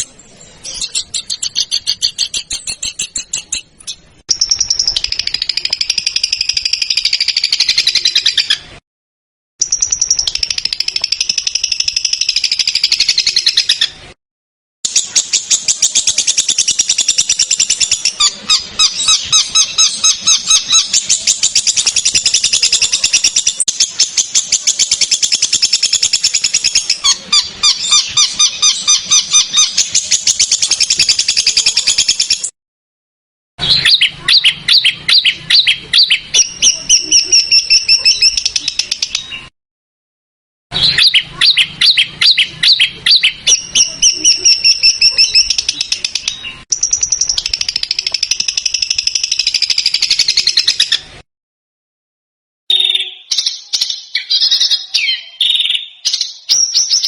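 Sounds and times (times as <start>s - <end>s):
songbird chirping: 0.0s - 8.8s, 14.9s - 32.5s, 33.6s - 39.5s, 40.8s - 51.2s, 52.7s - 57.0s.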